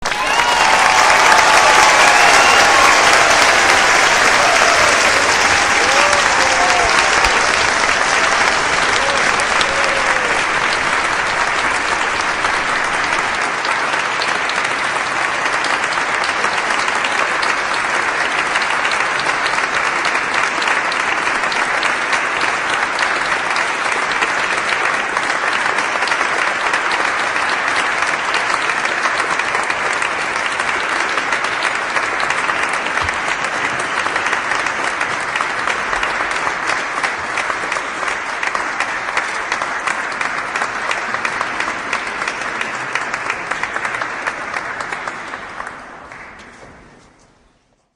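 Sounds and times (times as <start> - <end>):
crowd applauding: 0.0 - 47.3.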